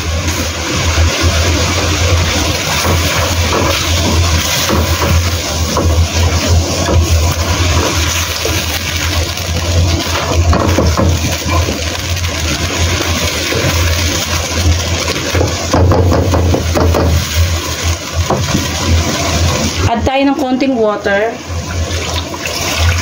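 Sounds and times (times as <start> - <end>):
meat sizzling in sauce: 0.0 - 23.0.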